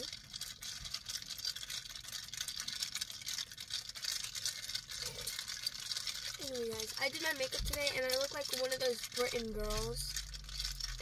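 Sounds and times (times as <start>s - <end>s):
straw stirring in plastic cup: 0.0s - 11.0s.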